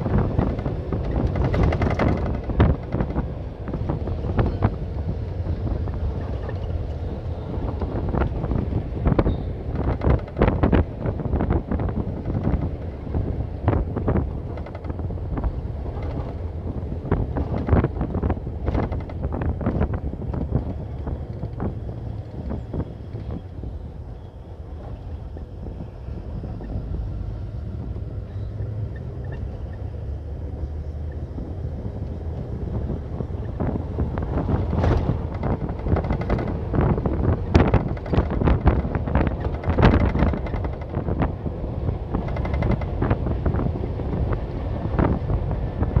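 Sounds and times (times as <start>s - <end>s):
low steady rumble: 0.0s - 46.0s
wind buffeting microphone: 0.0s - 46.0s.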